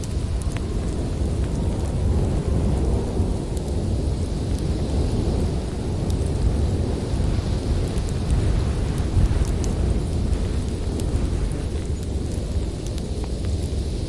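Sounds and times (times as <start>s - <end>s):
deep rumble of storm wind: 0.0s - 14.0s
wood fire crackling and popping: 0.0s - 14.0s.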